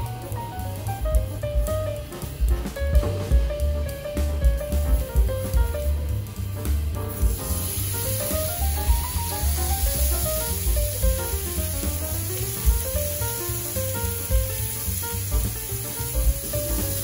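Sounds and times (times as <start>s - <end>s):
meat sizzling on griddle: 0.0s - 2.4s, 3.0s - 17.0s
music with heavy bass beat: 0.0s - 17.0s.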